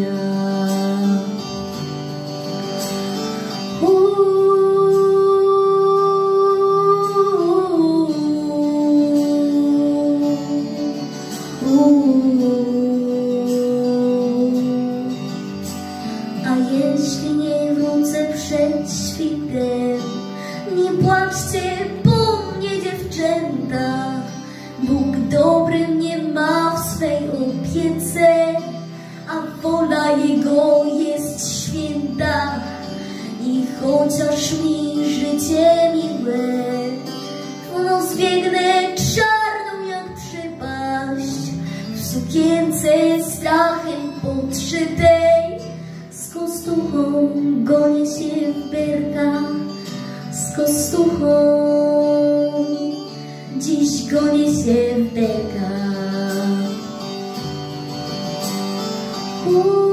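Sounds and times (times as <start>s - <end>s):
girl singing: 0.0s - 1.8s, 3.6s - 57.1s, 59.4s - 59.9s
backing track music: 0.0s - 59.9s.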